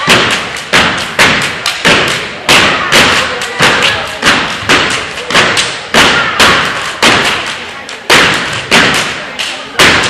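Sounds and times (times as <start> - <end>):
stomps and claps in unison: 0.0 - 10.0.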